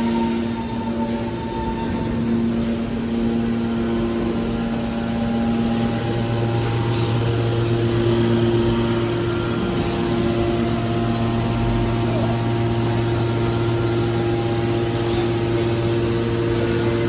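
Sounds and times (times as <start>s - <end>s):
hydraulic baler machine hum: 0.0s - 17.0s.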